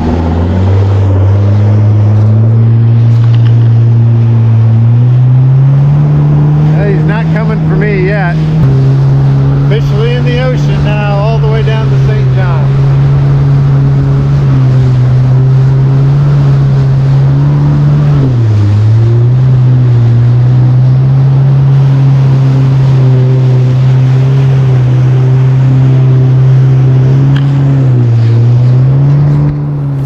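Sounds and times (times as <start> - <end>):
water and spray: 0.0 - 30.0
watercraft engine running: 0.0 - 30.0.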